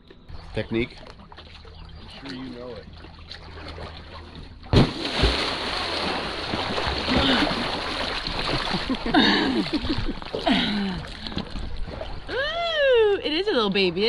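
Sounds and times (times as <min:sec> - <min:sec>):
water splashing: 0:00.4 - 0:12.8.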